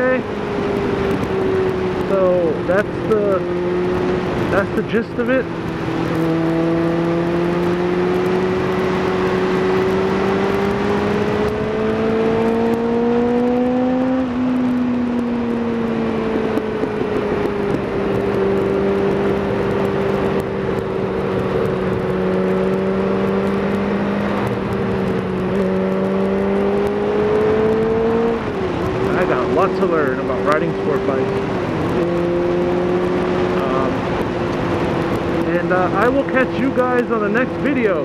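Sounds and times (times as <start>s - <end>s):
motorcycle engine: 0.0s - 38.0s
wind rush: 0.0s - 38.0s.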